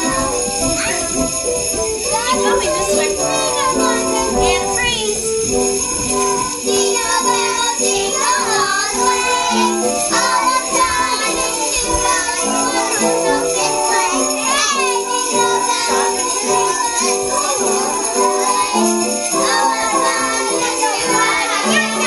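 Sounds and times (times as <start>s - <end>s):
children's voices: 0.0s - 22.0s
sleigh bells jingling: 0.0s - 22.0s
song with held notes: 0.0s - 22.0s.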